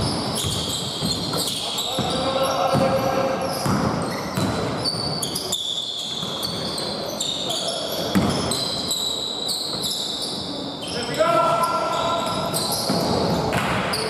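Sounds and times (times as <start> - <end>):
sneakers squeaking on court: 0.0 - 14.0.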